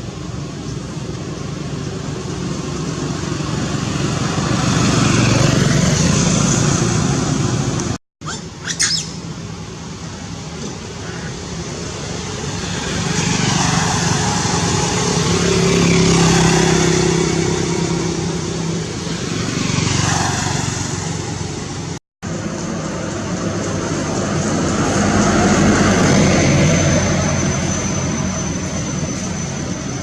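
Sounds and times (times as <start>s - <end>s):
vehicle engine passing: 1.3s - 8.0s, 9.0s - 30.0s.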